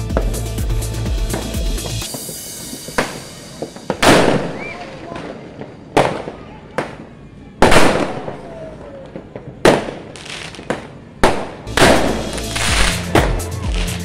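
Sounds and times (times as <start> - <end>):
firework crackling: 0.0 - 14.0
firework bangs: 1.3 - 14.0.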